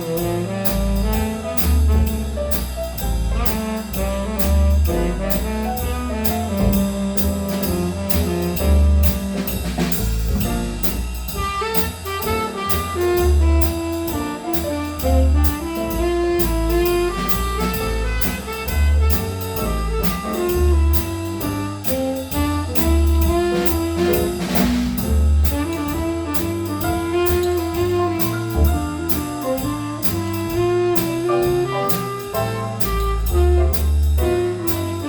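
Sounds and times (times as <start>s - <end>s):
bass line: 0.0s - 35.0s
drum kit steady beat: 0.0s - 35.0s
horn lines: 0.0s - 35.0s.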